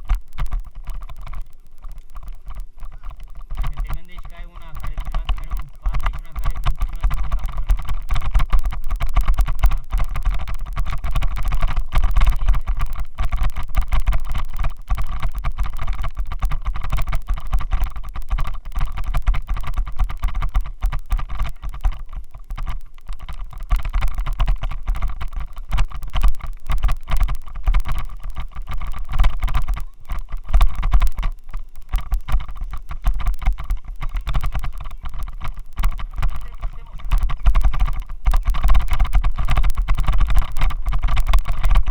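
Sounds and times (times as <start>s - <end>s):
camera mount rattling and buzzing: 0.0s - 41.9s.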